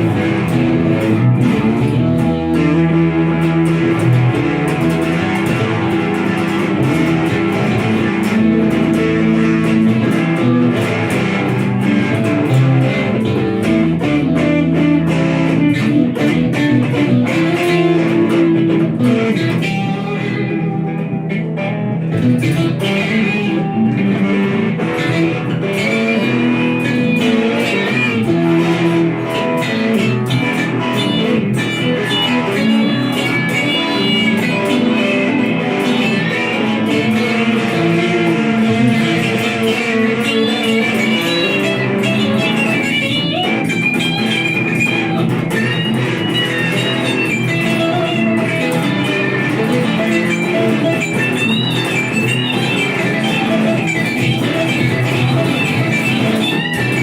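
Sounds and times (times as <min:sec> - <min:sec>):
electric guitar blues-rock jam: 0:00.0 - 0:57.0.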